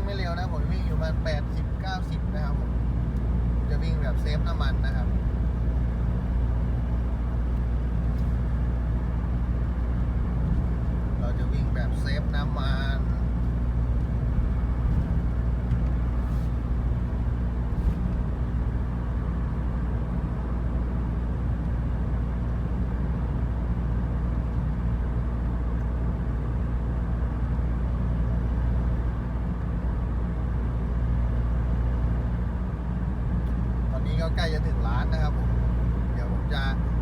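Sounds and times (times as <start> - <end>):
truck engine and road noise: 0.0 - 37.0.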